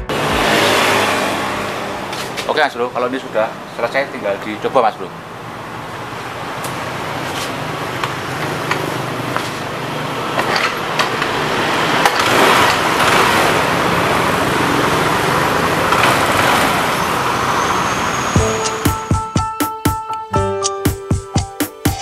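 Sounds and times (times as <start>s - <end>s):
scooter engine running: 0.0s - 19.4s.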